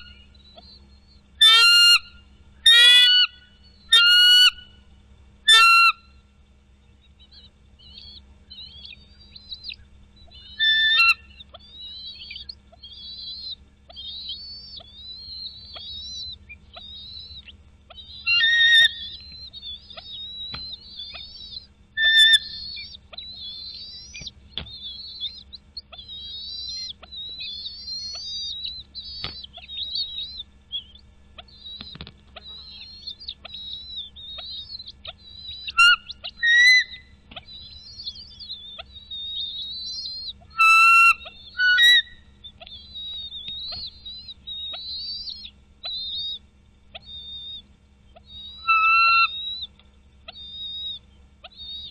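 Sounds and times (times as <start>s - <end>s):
birds chirping rapidly: 0.0s - 51.9s
loud harsh bird calls: 0.0s - 51.9s.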